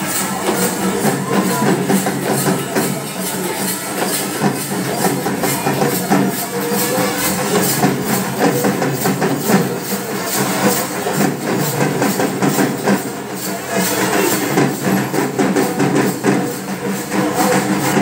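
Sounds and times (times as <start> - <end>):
cymbals crashing: 0.0 - 18.0
drums beating: 0.0 - 18.0.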